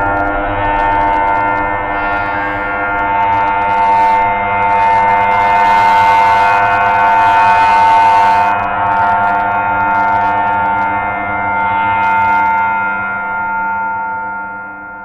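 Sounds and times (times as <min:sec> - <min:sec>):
electronic drone: 0:00.0 - 0:15.0.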